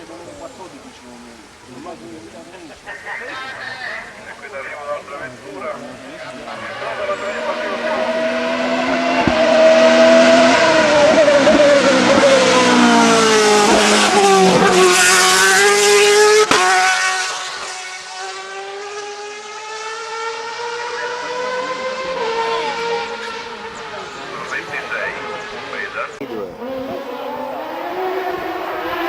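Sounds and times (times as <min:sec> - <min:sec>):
racing car engine revving past: 0:03.5 - 0:29.0.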